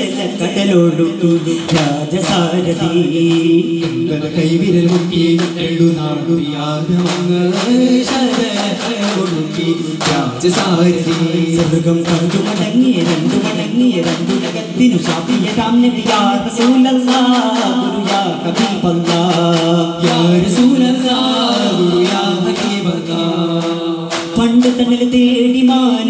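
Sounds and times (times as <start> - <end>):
men singing in unison: 0.0 - 26.0
frame drum strikes: 1.2 - 25.3.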